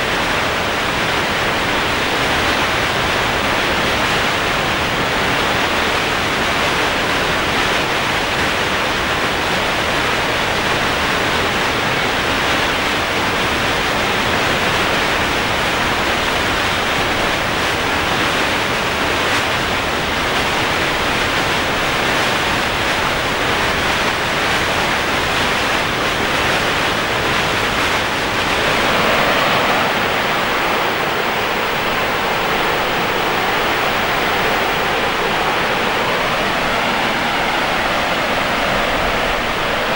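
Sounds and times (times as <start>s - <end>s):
waterfall roar: 0.0s - 39.9s
whitewater rushing: 0.0s - 39.9s.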